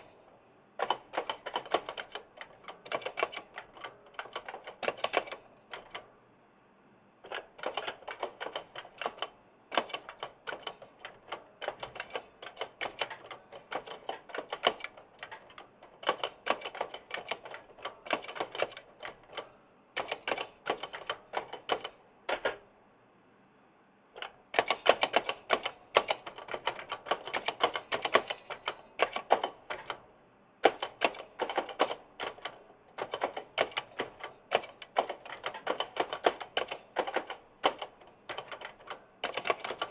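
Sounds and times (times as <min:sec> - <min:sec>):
mechanical keyboard typing: 0:00.8 - 0:06.1, 0:07.2 - 0:22.6, 0:24.2 - 0:30.0, 0:30.6 - 0:39.9.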